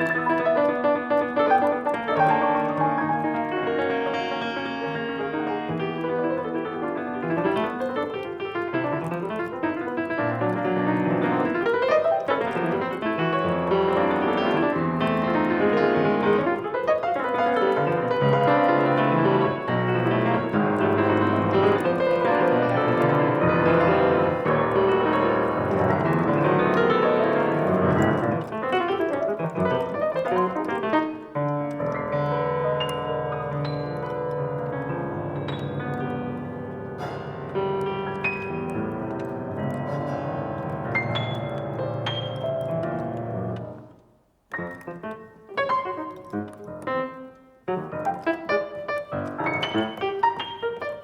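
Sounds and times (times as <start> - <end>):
solo piano playing: 0.0 - 51.0.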